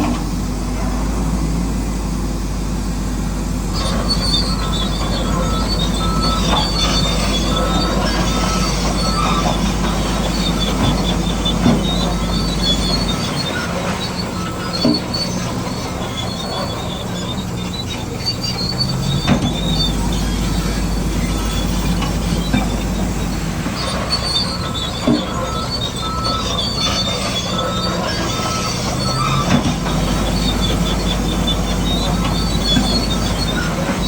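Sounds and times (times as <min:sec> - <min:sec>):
crawler tracks clanking: 0:00.0 - 0:34.0
diesel engine running: 0:00.0 - 0:34.0
high metallic squeal: 0:03.7 - 0:34.0.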